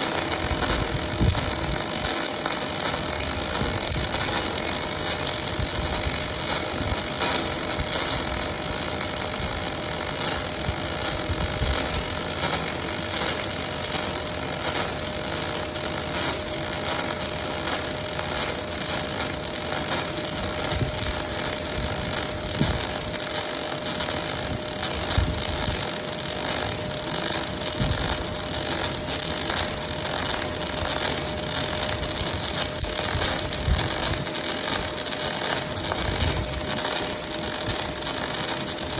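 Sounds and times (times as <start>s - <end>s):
welding machine hiss and hum: 0.0s - 38.9s.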